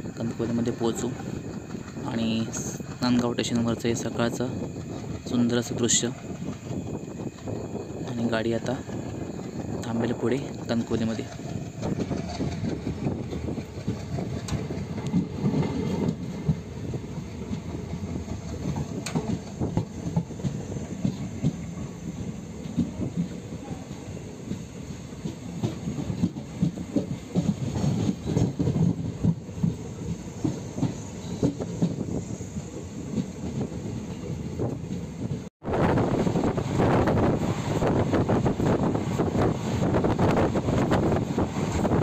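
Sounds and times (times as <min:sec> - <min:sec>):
train coach rumbling on rails: 0:00.0 - 0:42.0.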